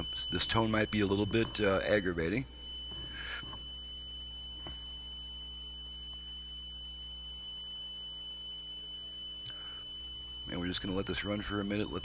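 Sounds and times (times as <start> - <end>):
low electrical hum: 0.0 - 12.0
steady test tone: 0.0 - 12.0.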